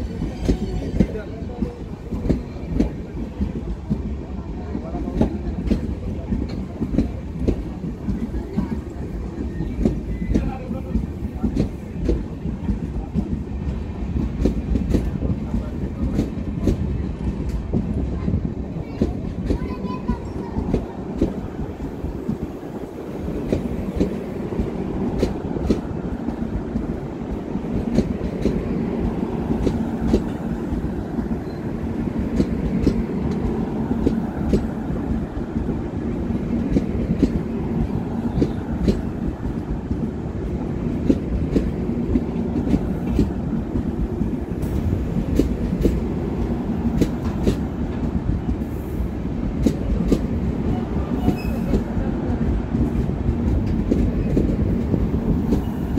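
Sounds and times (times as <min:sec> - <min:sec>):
train coaches rumbling past: 0:00.0 - 0:55.9.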